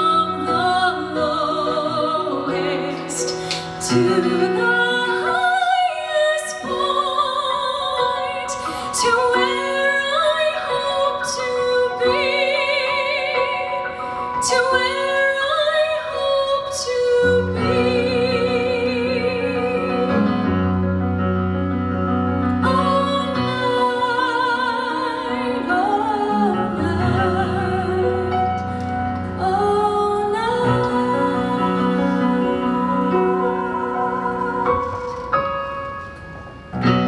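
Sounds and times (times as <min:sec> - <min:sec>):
woman singing with vibrato: 0:00.0 - 0:20.6, 0:22.6 - 0:28.7, 0:29.3 - 0:35.3
piano chords: 0:00.0 - 0:37.0.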